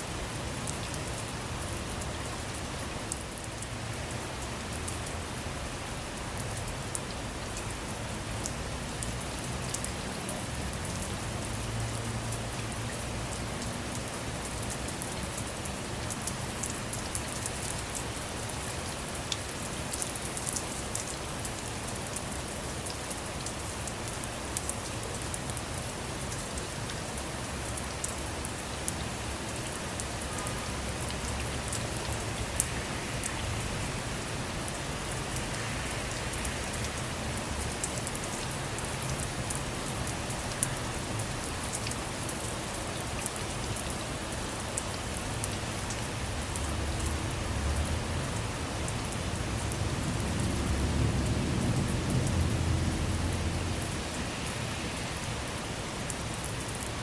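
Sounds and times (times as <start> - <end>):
rain falling on a car: 0.0 - 57.0.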